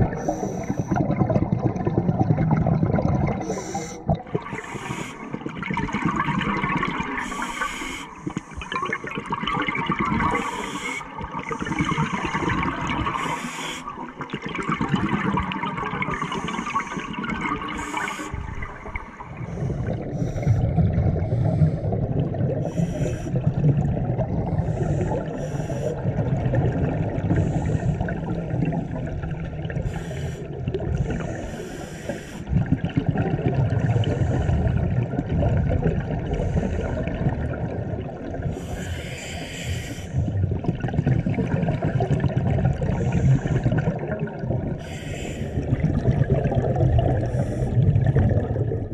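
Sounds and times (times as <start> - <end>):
low rumble of bubbles: 0.0 - 7.4, 8.2 - 13.3, 13.9 - 31.6, 32.4 - 38.9, 40.1 - 48.9
underwater bubbling: 0.0 - 48.9.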